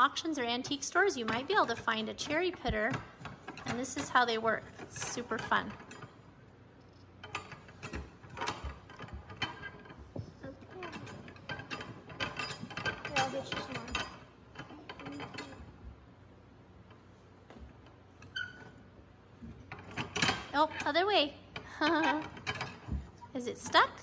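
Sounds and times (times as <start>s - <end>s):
metal cherry pitter clanking: 0.0s - 15.8s, 19.5s - 24.0s.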